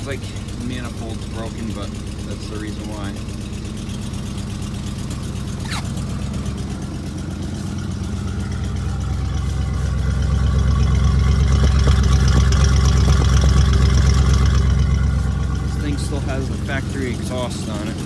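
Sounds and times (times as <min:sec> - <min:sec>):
exhaust leak: 0:00.0 - 0:18.0
truck engine idling: 0:00.0 - 0:18.0.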